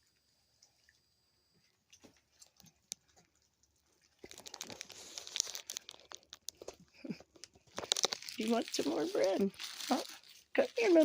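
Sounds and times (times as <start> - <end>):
raccoons chewing bread: 1.7 - 11.0.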